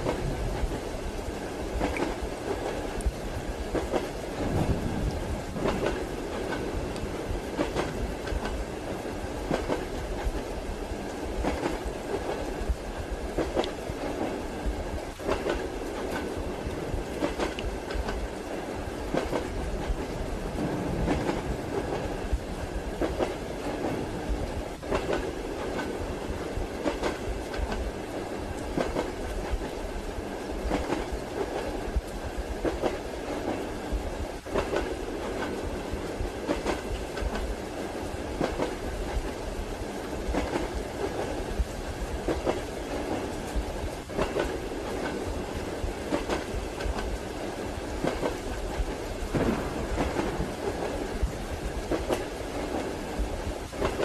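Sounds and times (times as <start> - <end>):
train wheels clacking: 0.0 - 29.8, 30.4 - 54.0
moving train rumble: 0.0 - 54.0
rain hiss: 0.0 - 54.0.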